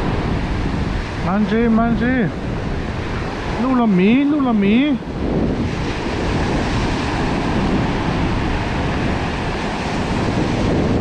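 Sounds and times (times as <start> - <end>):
ocean surf washing onto beach: 0.0 - 11.0
wind noise on microphone: 0.0 - 11.0.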